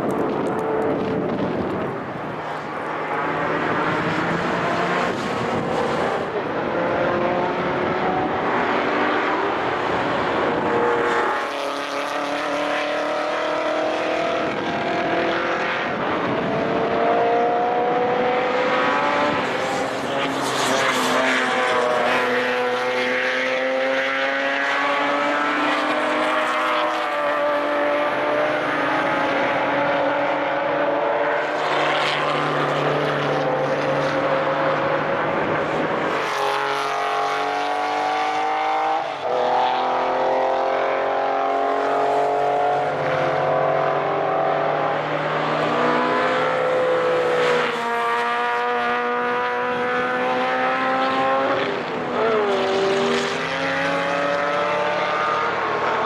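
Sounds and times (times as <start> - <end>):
racing car engines accelerating: 0.0 - 56.0.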